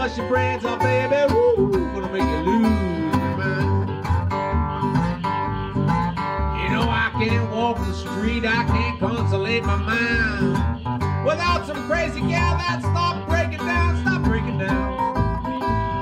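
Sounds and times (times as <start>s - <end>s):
acoustic guitar blues: 0.0s - 16.0s.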